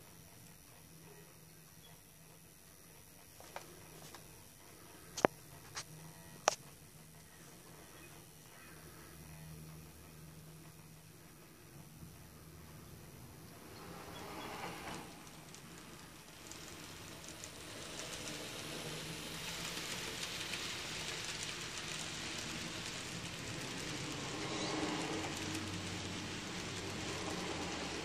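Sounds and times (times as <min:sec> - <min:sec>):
model train wheels rattling: 0:00.0 - 0:28.0.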